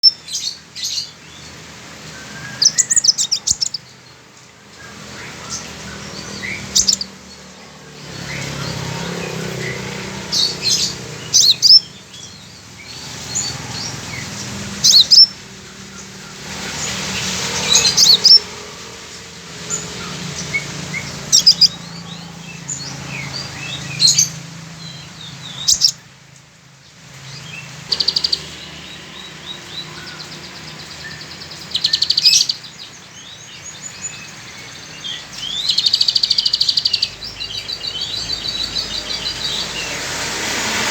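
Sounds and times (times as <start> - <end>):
bird chirping and trilling: 0.0 - 26.1, 27.2 - 40.2
rain hiss: 0.1 - 40.9.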